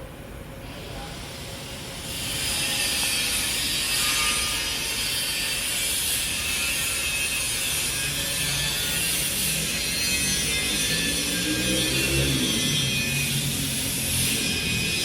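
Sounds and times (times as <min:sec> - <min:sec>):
cnc router cutting wood: 0:02.4 - 0:15.0.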